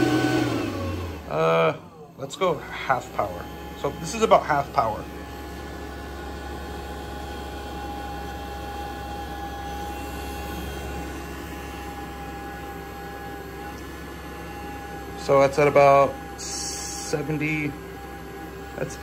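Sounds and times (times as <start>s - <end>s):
air blower running with whine: 0.0s - 19.0s.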